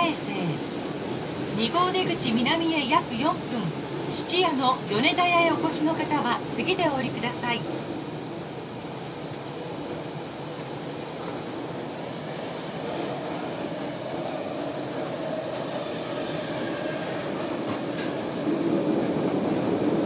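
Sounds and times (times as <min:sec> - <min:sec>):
subway car wheels rumbling: 0:00.0 - 0:20.0.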